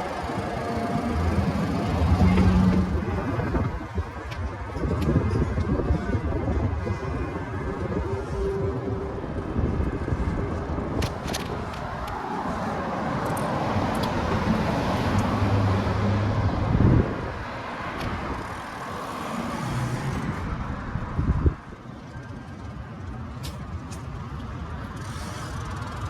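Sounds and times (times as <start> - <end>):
cars driving past: 0.0 - 21.6.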